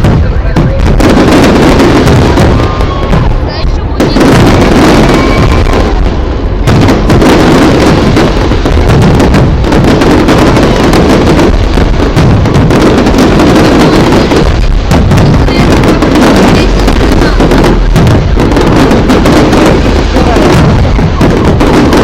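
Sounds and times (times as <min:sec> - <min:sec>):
fireworks bursting and popping: 0:00.0 - 0:22.0
low rumble: 0:00.0 - 0:22.0.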